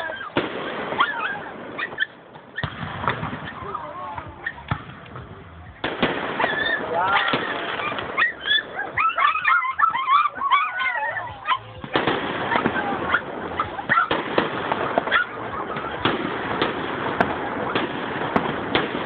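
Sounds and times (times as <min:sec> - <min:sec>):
high gliding firework calls: 0:00.0 - 0:04.7, 0:05.8 - 0:19.0
fireworks crackling and banging: 0:00.0 - 0:19.0.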